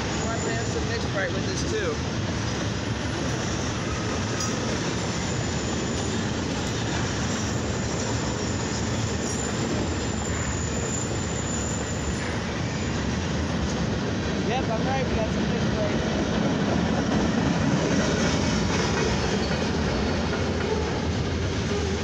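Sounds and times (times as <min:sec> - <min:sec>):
train wheels rolling on track: 0:00.0 - 0:22.0.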